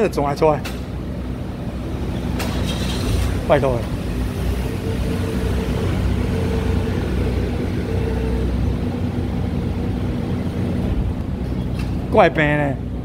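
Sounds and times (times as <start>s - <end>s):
washer pump motor humming: 0.8s - 12.2s
low rumble: 1.0s - 13.0s.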